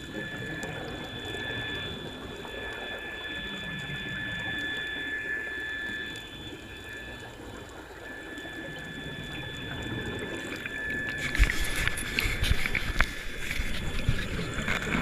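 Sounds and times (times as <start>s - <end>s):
high-pitched whine: 0.0s - 15.0s
water gurgling: 0.0s - 15.0s.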